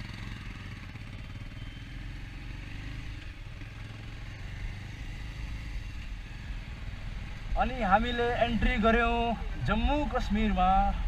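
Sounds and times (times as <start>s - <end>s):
motorcycle engine riding off: 0.0s - 10.8s.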